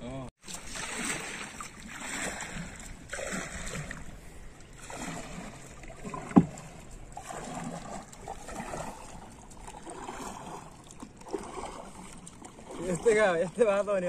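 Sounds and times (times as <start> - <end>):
water lapping against boat hull: 0.4 - 14.0.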